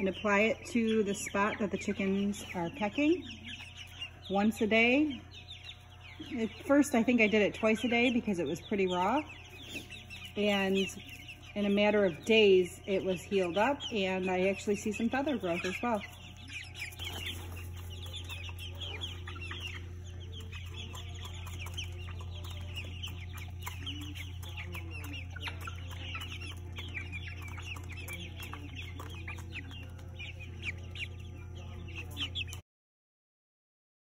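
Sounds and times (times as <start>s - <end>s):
chicks peeping and chirping: 0.0s - 32.6s.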